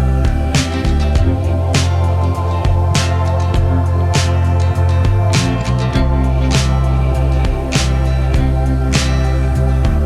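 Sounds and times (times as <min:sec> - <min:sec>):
guitar: 0:00.0 - 0:10.0
music with beat and bass: 0:00.0 - 0:10.0.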